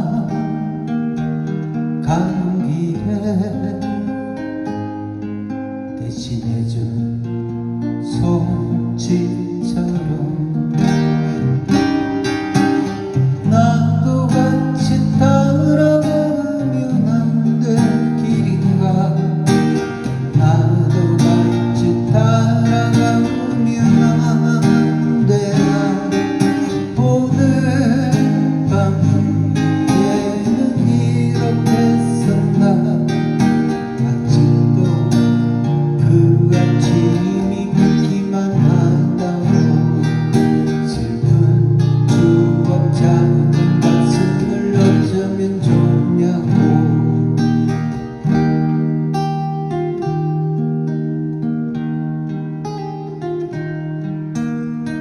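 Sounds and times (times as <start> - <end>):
acoustic guitar folk music: 0.0 - 55.0.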